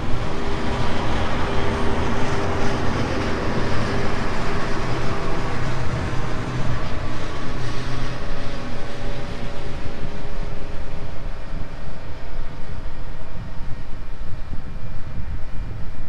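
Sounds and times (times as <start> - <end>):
crane train rolling along track: 0.0 - 16.0
loud uneven low rumble: 0.0 - 16.0.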